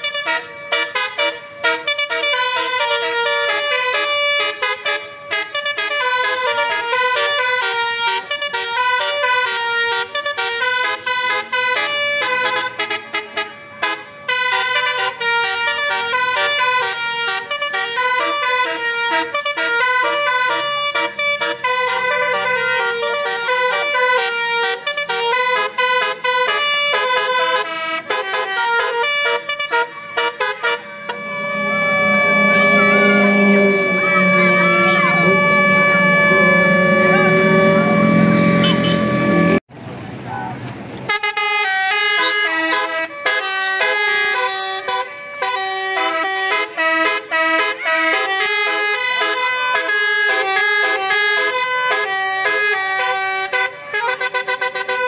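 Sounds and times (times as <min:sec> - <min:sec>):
multi-tone bus horn tune: 0:00.0 - 0:39.7, 0:41.1 - 0:55.0.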